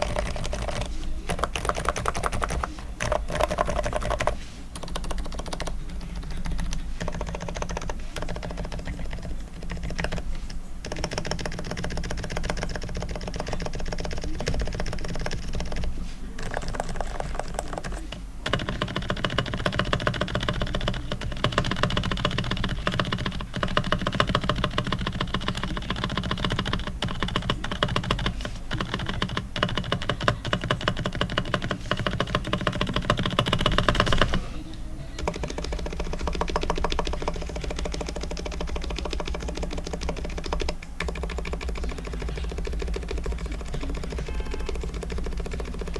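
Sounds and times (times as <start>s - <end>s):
fast keyboard typing: 0.0s - 45.9s.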